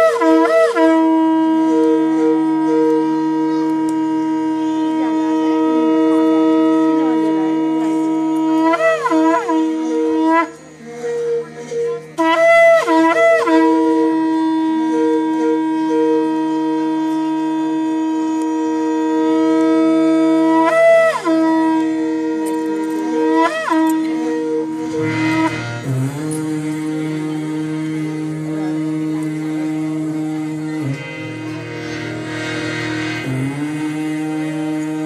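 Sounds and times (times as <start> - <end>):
conch shell blasts: 0.0 - 35.0.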